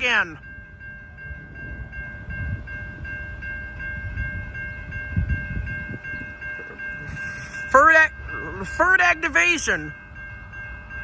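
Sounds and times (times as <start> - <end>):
crossing warning bell ringing: 0.0 - 11.0.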